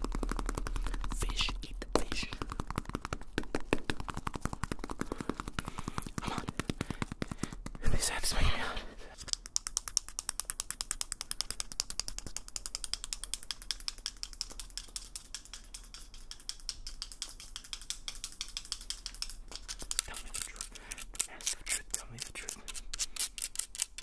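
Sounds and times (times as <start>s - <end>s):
wooden object clicking rapidly: 0.0s - 8.0s, 9.3s - 24.0s.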